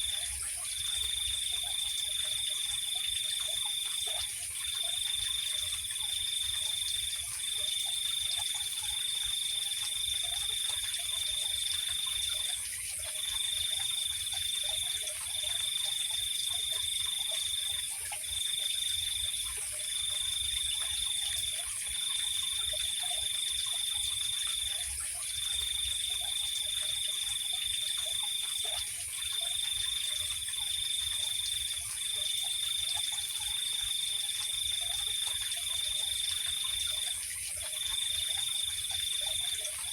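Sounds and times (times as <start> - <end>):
insect hiss: 0.0 - 39.9.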